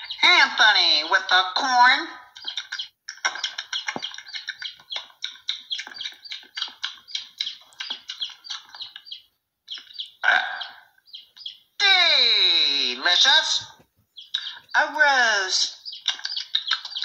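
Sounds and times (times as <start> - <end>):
high bird-like chirps: 0.0 - 1.0, 2.2 - 17.0.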